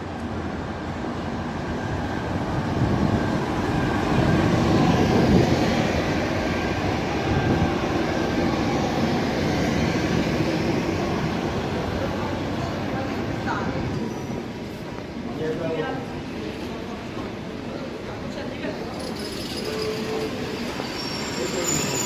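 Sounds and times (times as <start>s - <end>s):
train rumbling and rattling: 0.0s - 22.0s.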